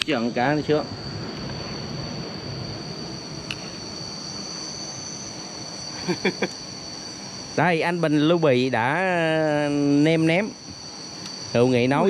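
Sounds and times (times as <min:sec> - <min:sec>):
even hiss: 0:00.0 - 0:12.0
night insects trilling: 0:00.0 - 0:12.0.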